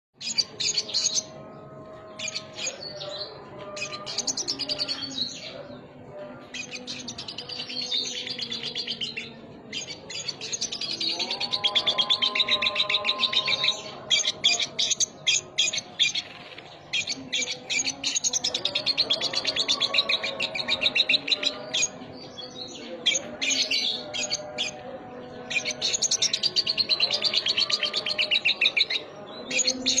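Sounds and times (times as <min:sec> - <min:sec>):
songbird trilling and chirping: 0:00.2 - 0:05.8, 0:06.4 - 0:30.0.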